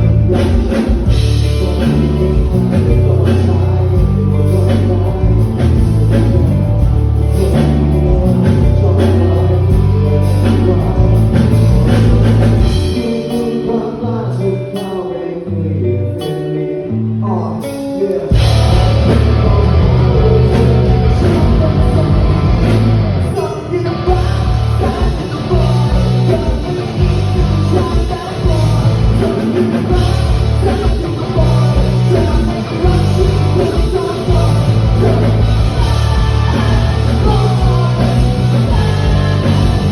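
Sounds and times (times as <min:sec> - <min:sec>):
rock band playing: 0:00.0 - 0:15.2, 0:16.1 - 0:39.9
person singing: 0:00.0 - 0:39.9.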